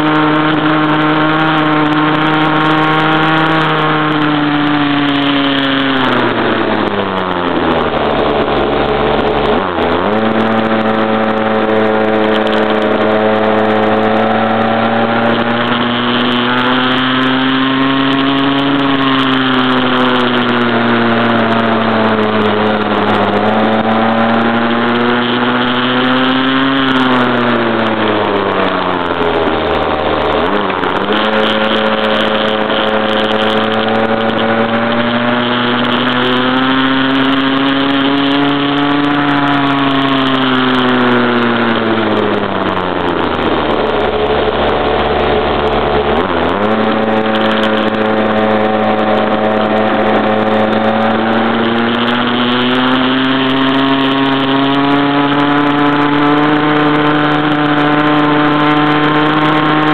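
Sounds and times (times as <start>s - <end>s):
small two-stroke engine revving: 0.0s - 59.9s.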